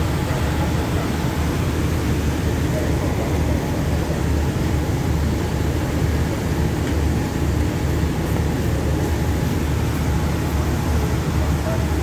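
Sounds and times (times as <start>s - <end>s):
diesel train low rumble: 0.0s - 12.0s.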